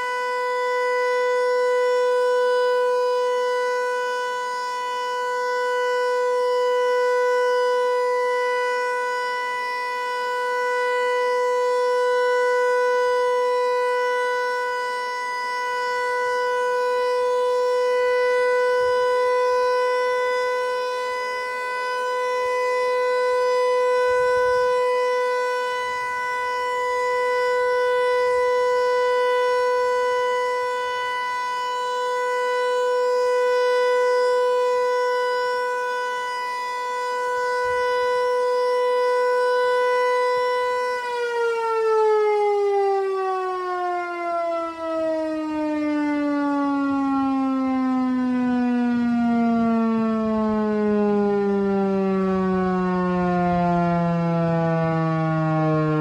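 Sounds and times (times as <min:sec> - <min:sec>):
warning siren steady tone: 0:00.0 - 0:56.0.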